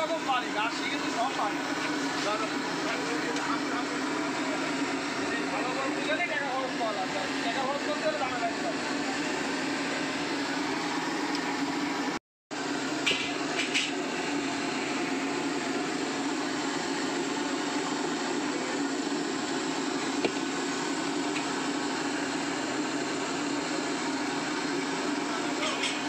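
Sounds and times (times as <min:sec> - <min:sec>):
mechanical hum and hiss: 0:00.0 - 0:26.0.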